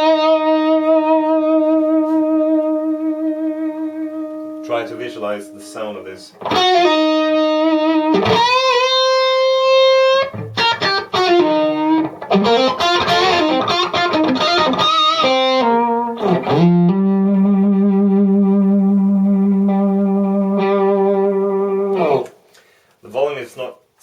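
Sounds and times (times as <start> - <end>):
electric guitar bent notes: 0.0 - 22.4.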